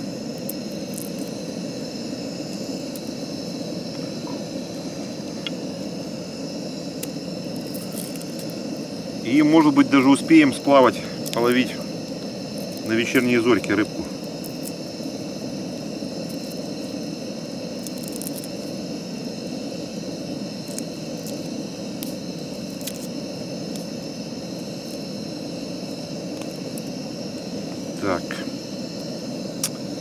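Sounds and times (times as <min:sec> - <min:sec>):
gas stove burning roar: 0:00.0 - 0:30.0.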